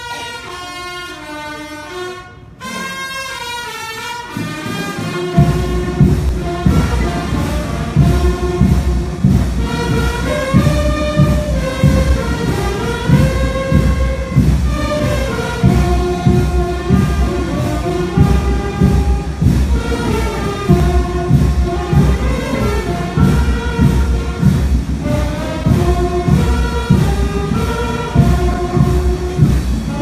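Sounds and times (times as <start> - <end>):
brass band playing a hymn: 0.0 - 30.0
steady low beat: 4.3 - 30.0.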